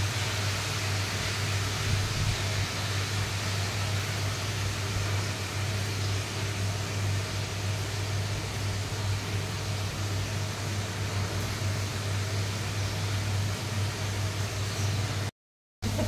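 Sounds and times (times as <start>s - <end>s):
fish sizzling in oil: 0.0s - 15.3s.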